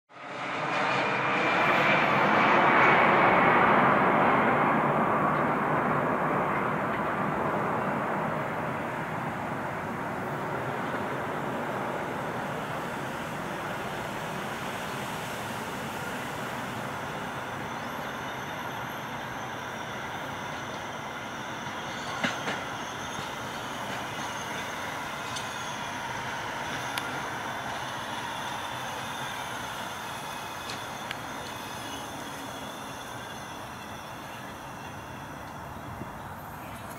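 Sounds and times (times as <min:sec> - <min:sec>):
jet aircraft passing overhead: 0:00.1 - 0:36.9.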